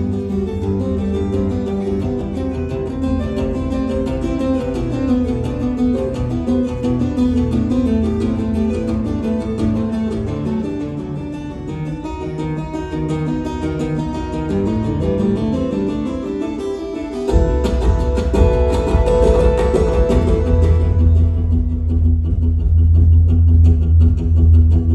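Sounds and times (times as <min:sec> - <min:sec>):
acoustic guitar tapping melody: 0:00.0 - 0:24.9.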